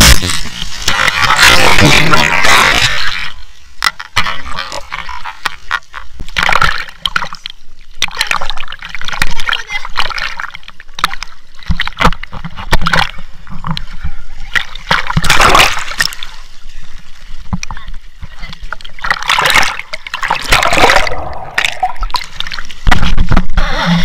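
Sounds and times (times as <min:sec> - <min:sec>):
sea water splashing: 0:00.0 - 0:24.0.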